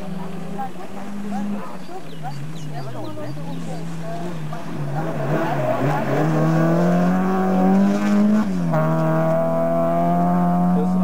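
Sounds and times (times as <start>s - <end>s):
rally car engine passing: 0.0s - 11.0s.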